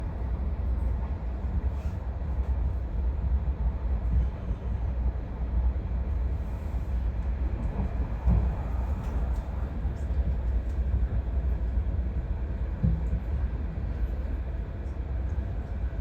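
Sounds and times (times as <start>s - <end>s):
passenger train running on track: 0.0s - 16.0s.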